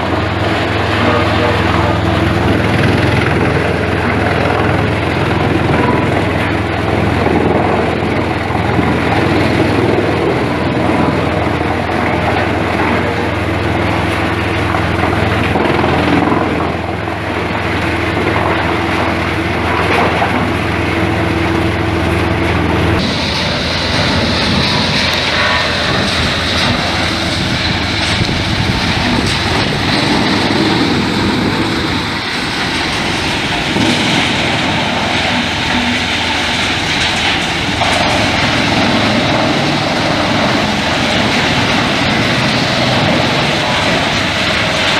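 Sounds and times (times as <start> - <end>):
low machinery hum: 0.0 - 44.9
rushing mechanical noise: 0.0 - 44.9.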